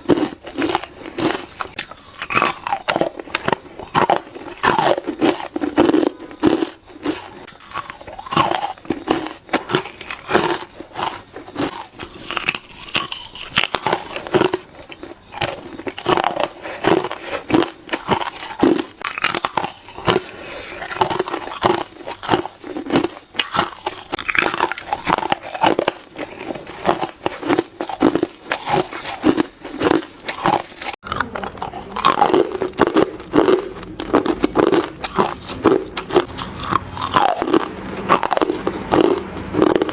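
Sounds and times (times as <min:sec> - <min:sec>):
ice cubes crunched by teeth: 0:00.0 - 0:39.9.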